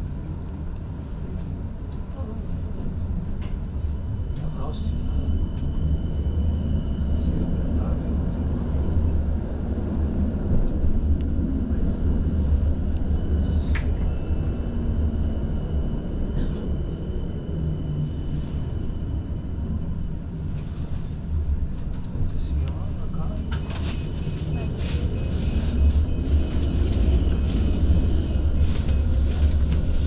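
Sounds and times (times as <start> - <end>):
tram low rumble: 0.0 - 30.0.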